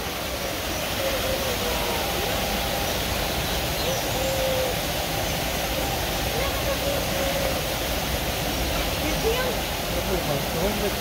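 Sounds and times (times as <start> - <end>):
faint voices calling: 0.0 - 11.0
waterfall rushing: 0.0 - 11.0.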